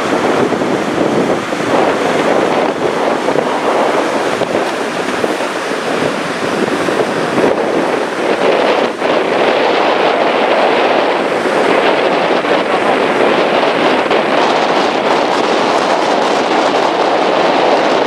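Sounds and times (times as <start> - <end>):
waterfall rushing: 0.0 - 18.0
wind on microphone: 0.0 - 18.0.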